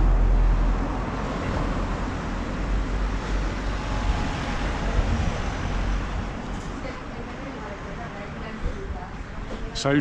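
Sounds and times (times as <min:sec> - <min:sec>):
hiss of passing vehicles: 0:00.0 - 0:10.0
road traffic rumble: 0:00.0 - 0:10.0.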